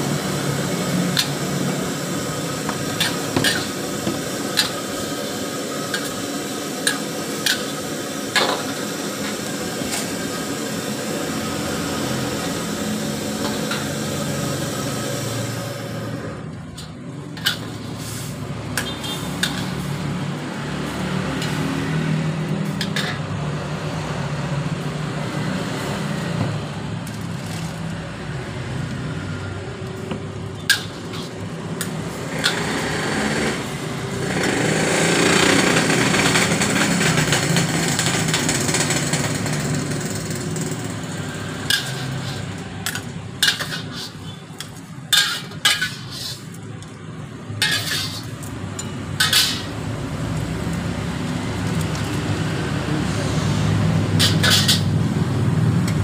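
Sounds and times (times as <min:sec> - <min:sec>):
liquid sizzling in a hot wok: 0:00.0 - 0:16.3, 0:17.3 - 0:26.4, 0:27.0 - 0:34.1, 0:40.9 - 0:46.9, 0:47.5 - 0:55.2
stove humming: 0:00.0 - 0:56.0
utensils clanking against a wok: 0:00.3 - 0:11.1, 0:12.0 - 0:23.5, 0:29.9 - 0:34.8, 0:35.6 - 0:55.2.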